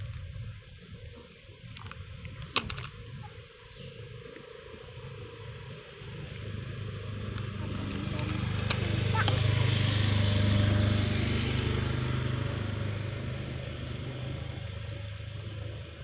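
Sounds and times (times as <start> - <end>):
vehicle engine approaching: 3.0 - 16.0.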